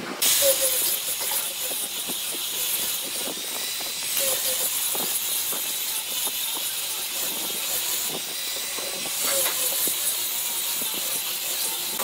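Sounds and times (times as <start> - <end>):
grinder sanding wood: 0.0 - 12.0.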